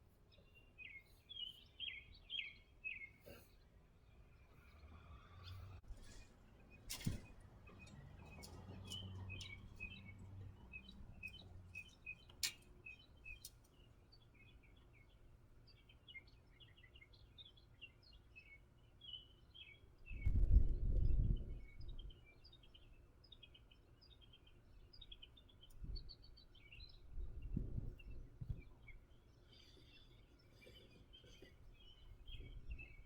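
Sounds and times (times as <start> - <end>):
faint birds chirping: 0.0 - 33.0.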